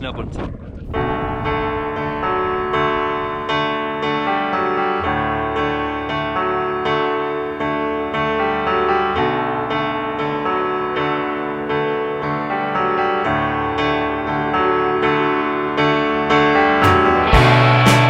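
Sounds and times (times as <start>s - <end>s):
piano music: 0.9s - 18.0s.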